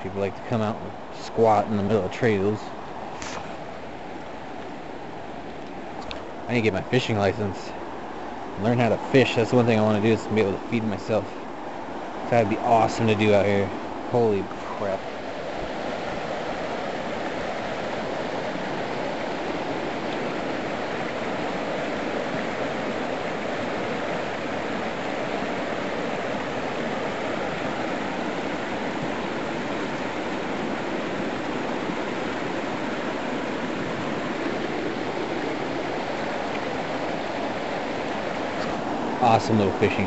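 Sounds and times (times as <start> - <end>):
creek water rushing: 0.0 - 40.0.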